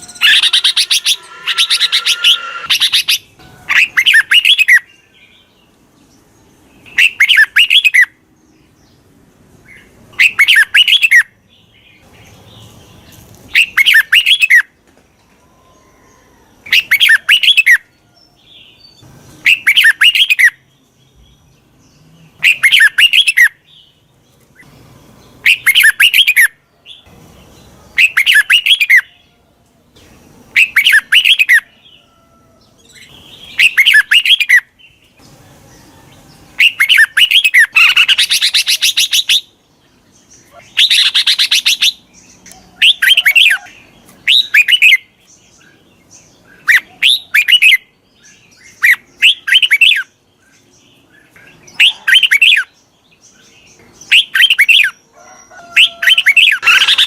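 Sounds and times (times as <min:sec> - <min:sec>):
bulbul singing: 0:00.0 - 0:09.0, 0:16.7 - 0:29.3, 0:30.0 - 0:55.0.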